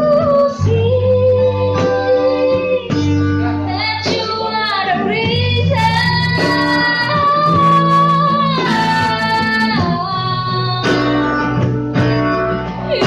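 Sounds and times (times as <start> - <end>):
instrumental accompaniment with guitar: 0.0 - 13.0.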